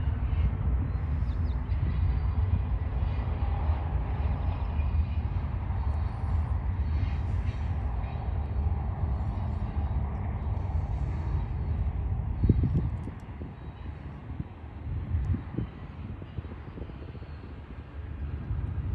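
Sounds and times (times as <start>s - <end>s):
freight train rumbling past: 0.0s - 18.9s.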